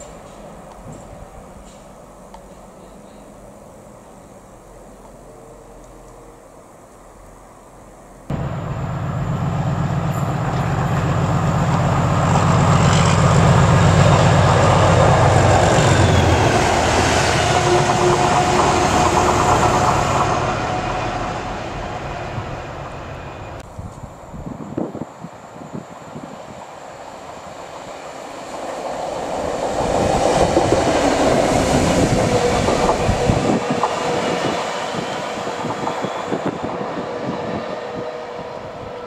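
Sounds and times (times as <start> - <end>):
diesel locomotive engine drone: 0.0 - 39.0
wheels rumbling on rails: 0.0 - 39.0.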